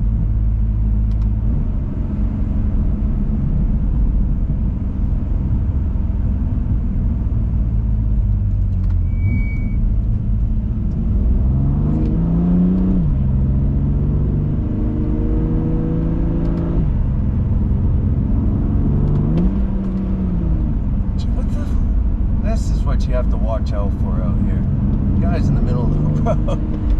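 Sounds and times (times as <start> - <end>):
car engine accelerating: 0.0 - 26.9
road noise rumble: 0.0 - 26.9.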